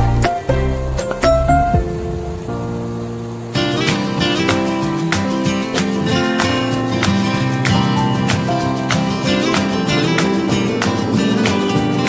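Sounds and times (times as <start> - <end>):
acoustic guitar music with beat: 0.0 - 12.0.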